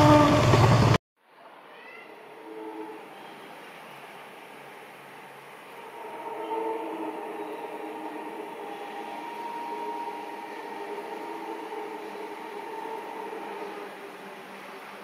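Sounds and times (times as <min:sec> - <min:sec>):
distant diesel locomotive drone: 0:00.0 - 0:01.0, 0:01.6 - 0:15.0
background noise: 0:00.6 - 0:15.0.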